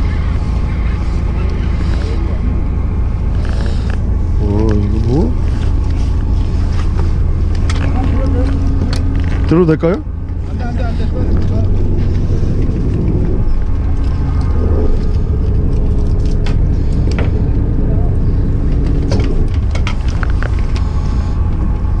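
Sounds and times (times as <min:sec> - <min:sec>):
faint voices: 0:00.0 - 0:20.0
boat engine rumbling: 0:00.0 - 0:22.0.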